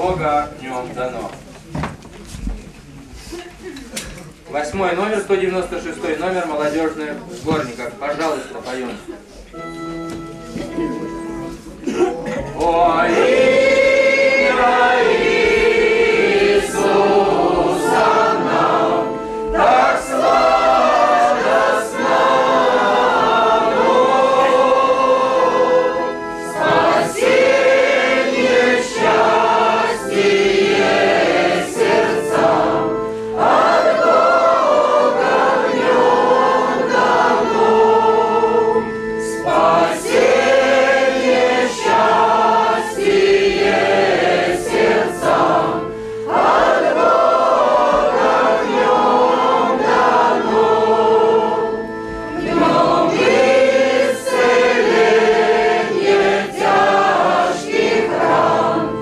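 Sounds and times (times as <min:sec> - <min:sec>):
congregation singing a hymn: 0:09.0 - 0:59.0.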